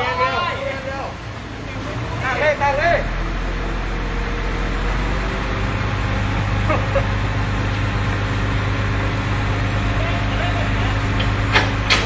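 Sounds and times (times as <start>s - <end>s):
crane diesel engine running: 0.0s - 12.0s.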